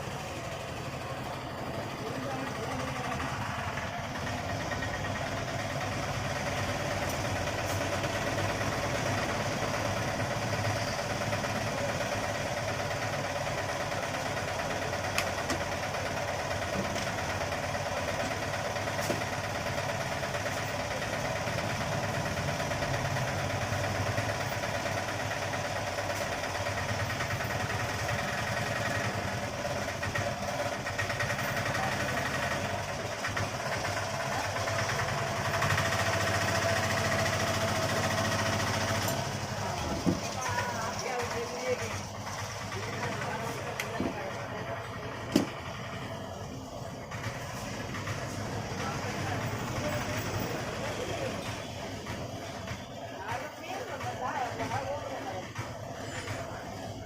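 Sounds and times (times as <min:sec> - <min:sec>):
motor running steadily: 0:00.0 - 0:57.0.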